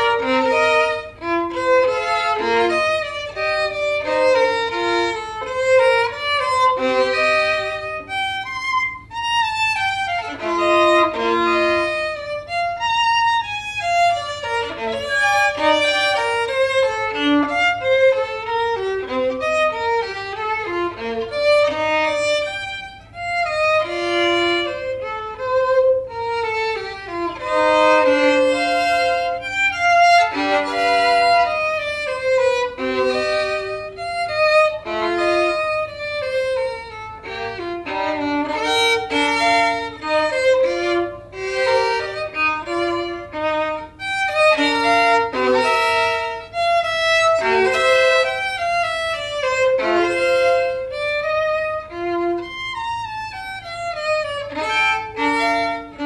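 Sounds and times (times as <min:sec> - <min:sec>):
solo violin melody: 0:00.0 - 0:56.0.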